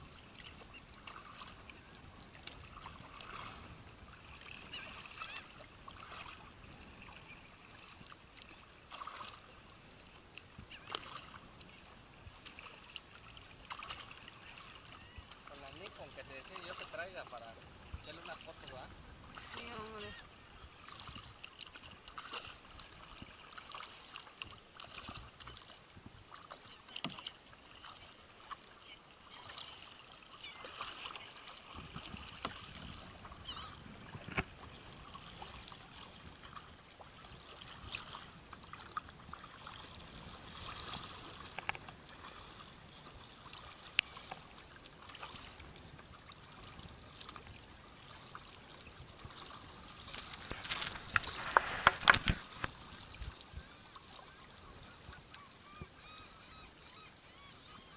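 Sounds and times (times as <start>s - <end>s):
water trickling and splashing: 0.0s - 57.9s.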